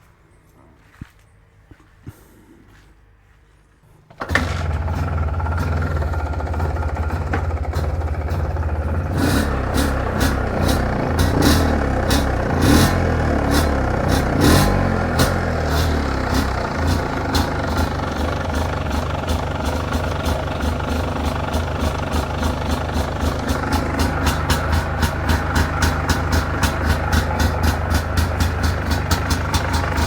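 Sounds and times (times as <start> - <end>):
two-stroke engine running: 4.1 - 30.0.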